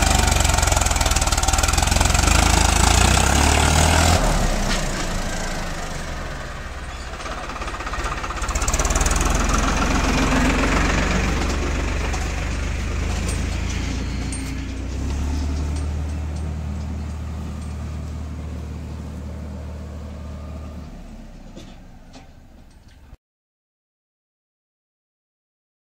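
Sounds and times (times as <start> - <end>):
diesel tractor engine running: 0.0 - 23.2.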